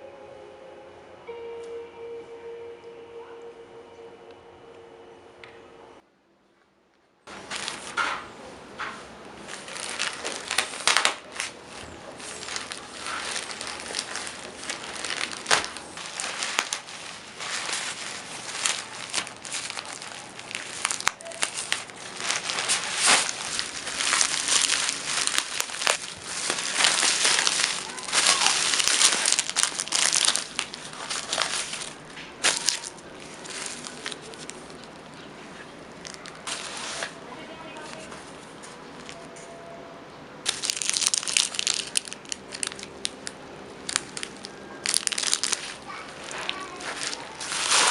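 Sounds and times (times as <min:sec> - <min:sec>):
packaging crinkling: 0:07.3 - 0:39.4, 0:40.4 - 0:47.9.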